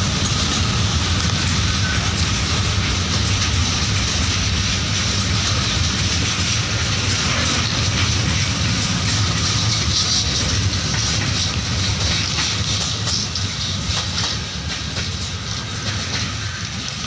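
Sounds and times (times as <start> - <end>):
rushing hiss: 0.0 - 17.0
train wheels rumbling on rails: 0.0 - 17.0.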